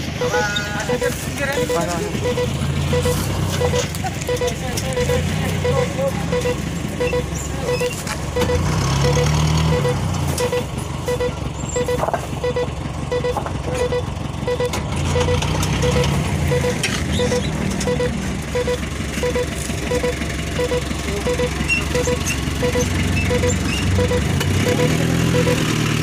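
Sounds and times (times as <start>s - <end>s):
vehicle engine rumbling: 0.0s - 26.0s
faint double beep: 0.1s - 25.7s.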